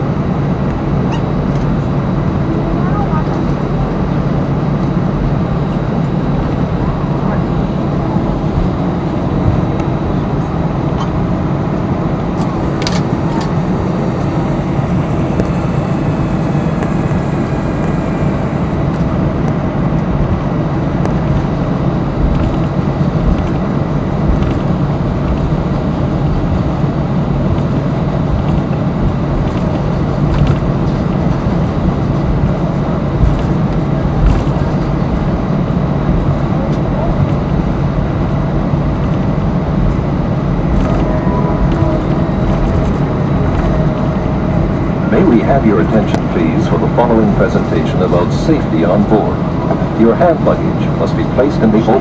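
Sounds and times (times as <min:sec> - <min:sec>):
aircraft cabin hum: 0:00.0 - 0:52.0.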